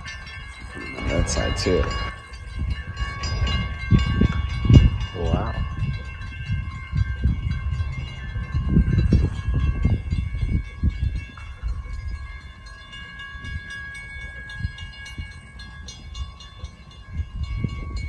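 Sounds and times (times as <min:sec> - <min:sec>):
crossing signal ringing: 0:00.0 - 0:18.0.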